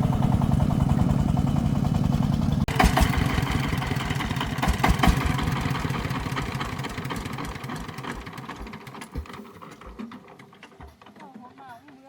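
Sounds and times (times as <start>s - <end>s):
diesel engine thudding and clattering: 0.0s - 11.2s.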